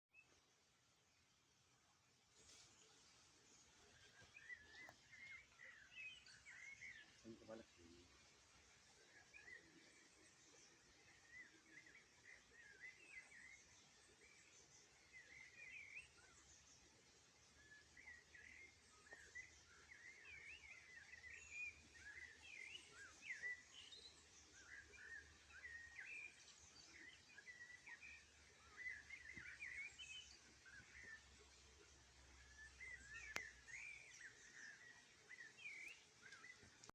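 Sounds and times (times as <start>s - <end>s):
faint birdsong chirps: 0.1s - 36.9s.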